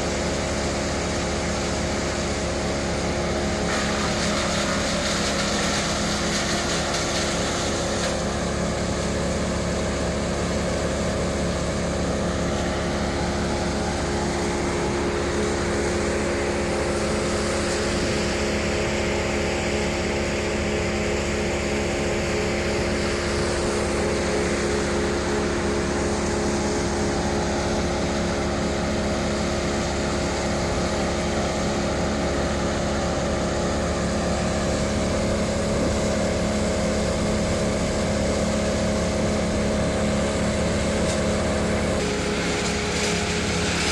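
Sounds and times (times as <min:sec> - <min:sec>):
machinery engine droning steadily: 0:00.0 - 0:43.9.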